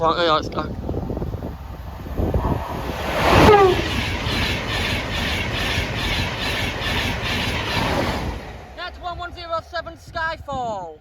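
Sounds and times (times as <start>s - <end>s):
falling whine of train: 0.0s - 10.8s
high-speed train passing: 0.0s - 11.0s.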